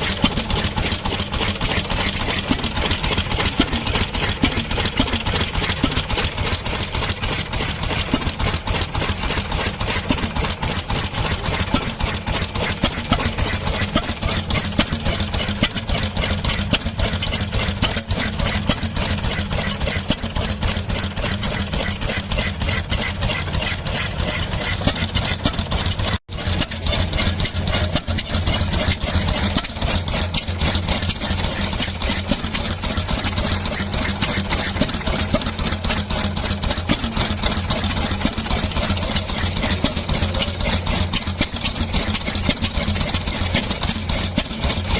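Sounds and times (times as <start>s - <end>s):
stationary petrol engine running: 0.0s - 44.9s.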